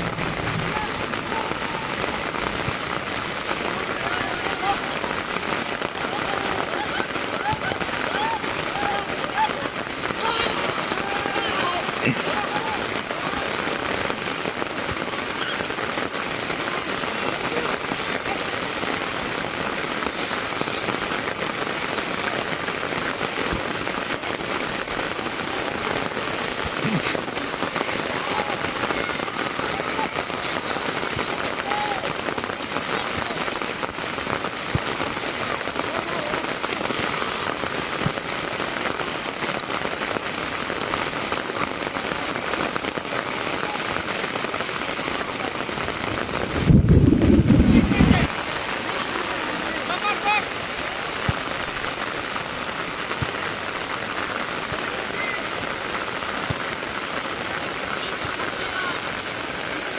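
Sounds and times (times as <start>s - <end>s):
heavy rain on ground: 0.0s - 59.9s.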